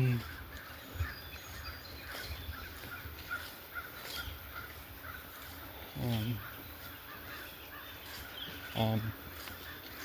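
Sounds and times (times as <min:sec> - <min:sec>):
birds chirping: 0:00.0 - 0:10.0
footsteps on a trail: 0:00.0 - 0:10.0.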